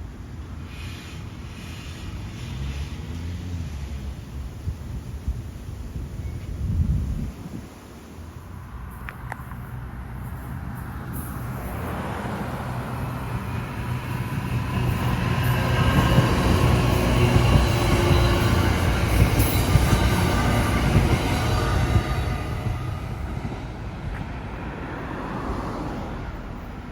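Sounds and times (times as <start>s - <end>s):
train passing rumble: 0.0s - 26.9s.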